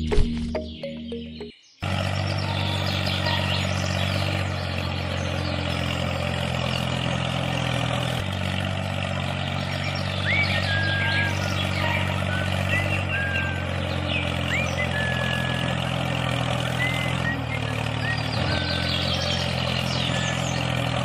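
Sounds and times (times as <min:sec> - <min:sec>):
birds chirping: 0:00.0 - 0:21.0
tractor engine running: 0:00.0 - 0:21.0.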